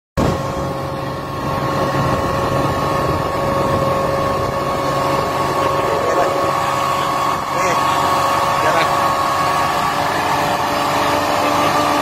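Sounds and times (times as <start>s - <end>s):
high whine: 0.2s - 12.0s
outboard motor drone: 0.2s - 12.0s.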